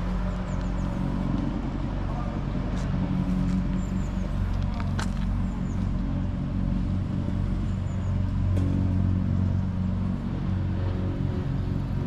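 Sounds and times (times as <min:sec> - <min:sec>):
vehicle motor rumbling: 0:00.0 - 0:12.0.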